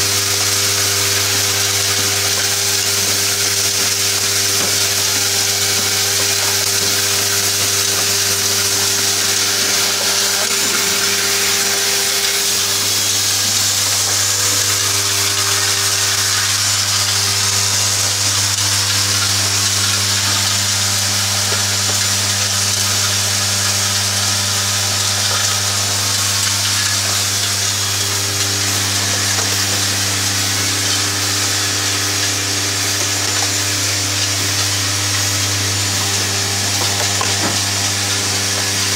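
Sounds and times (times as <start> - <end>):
vibratory bowl feeder buzz: 0.0 - 38.9.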